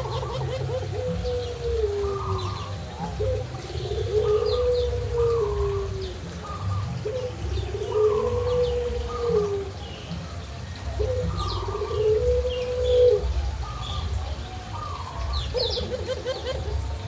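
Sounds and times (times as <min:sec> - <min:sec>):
dove cooing: 0:00.0 - 0:17.0
small birds chirping: 0:00.0 - 0:17.0.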